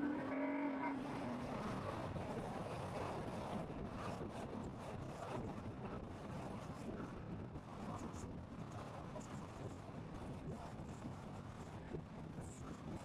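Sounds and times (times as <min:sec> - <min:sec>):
road and wind noise in car: 0:00.0 - 0:13.0.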